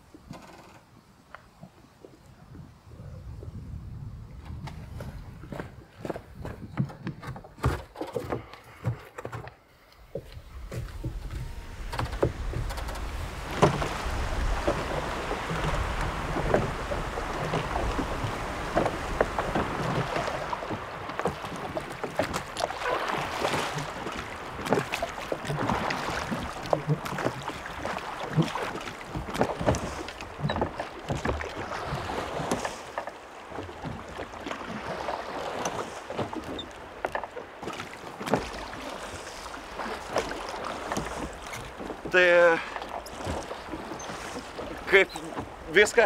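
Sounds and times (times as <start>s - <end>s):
oars creaking in oarlocks: 0.0s - 1.8s, 4.3s - 46.0s
wind and waves: 0.0s - 46.0s
oar blades splashing water: 4.5s - 46.0s.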